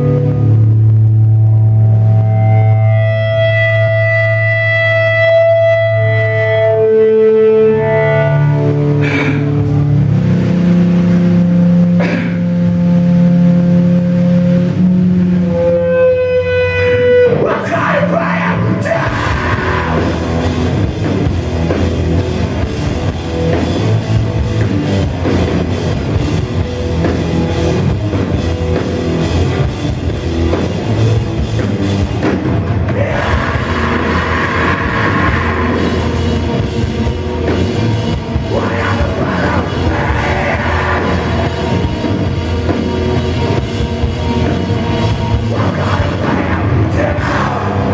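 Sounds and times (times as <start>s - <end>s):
heavy rock band playing: 0.0s - 47.9s.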